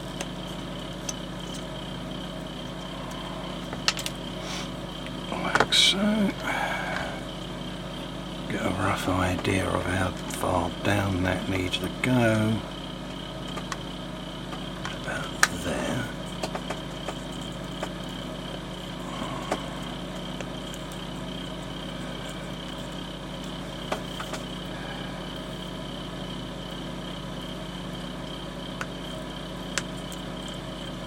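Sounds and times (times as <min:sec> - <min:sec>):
low background hum: 0:00.0 - 0:31.0
thin high whine: 0:00.0 - 0:31.0.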